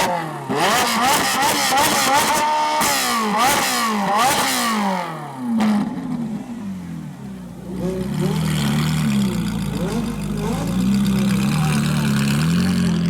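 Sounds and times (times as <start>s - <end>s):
car engine revving with crackles: 0.0s - 13.0s.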